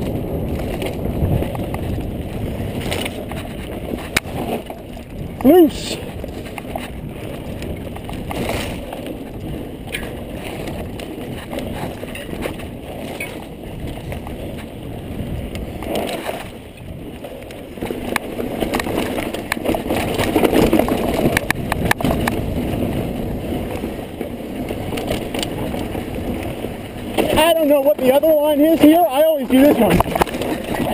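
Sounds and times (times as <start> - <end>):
bike clicks and rattles: 0.0 - 30.9.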